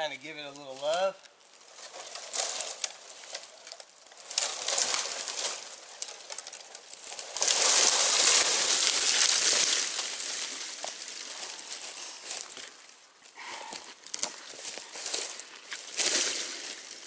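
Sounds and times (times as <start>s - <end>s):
crackling wood and dry branches: 0.0s - 17.0s
tree crashing through branches: 1.6s - 13.0s, 14.0s - 17.0s.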